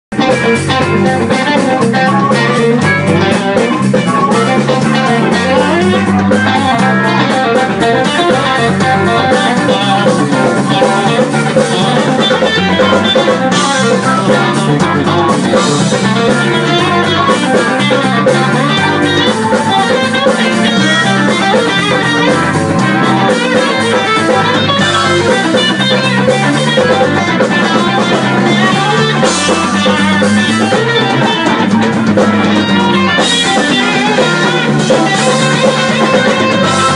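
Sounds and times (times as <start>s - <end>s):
drum kit: 0.1s - 36.9s
electric guitars: 0.1s - 36.9s.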